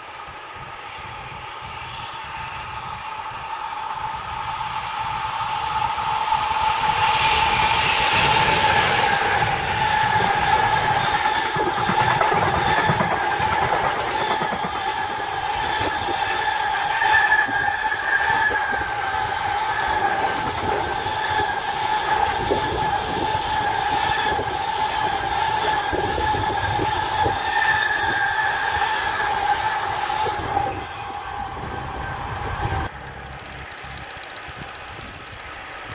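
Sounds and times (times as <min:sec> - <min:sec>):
train rumbling past: 0:00.1 - 0:35.9.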